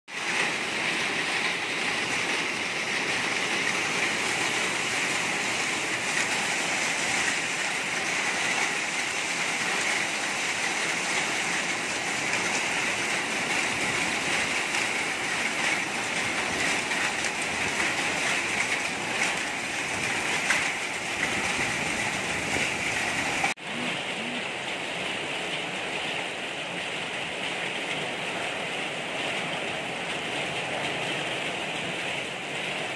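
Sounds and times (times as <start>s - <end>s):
rain and hail on metal roof: 0.1s - 32.9s.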